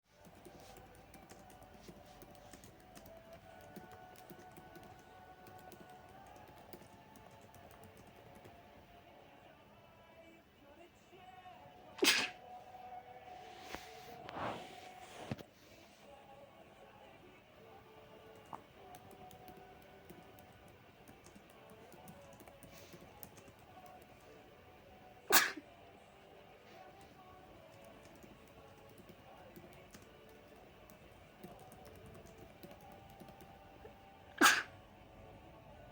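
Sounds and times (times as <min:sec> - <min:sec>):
faint background music: 0:00.0 - 0:35.9.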